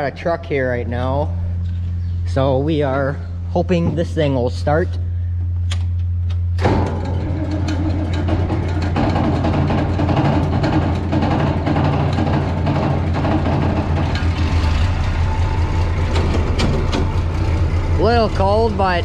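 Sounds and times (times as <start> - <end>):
truck engine starting and idling: 0.0 - 19.0.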